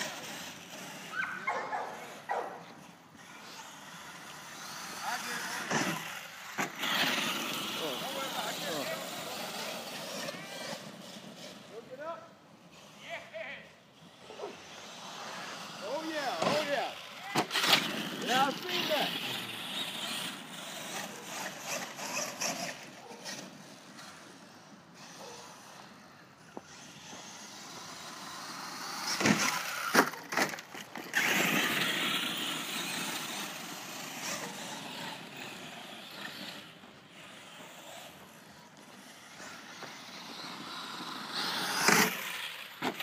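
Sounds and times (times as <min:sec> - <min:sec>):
toy truck motor on gravel: 0:00.0 - 0:43.0.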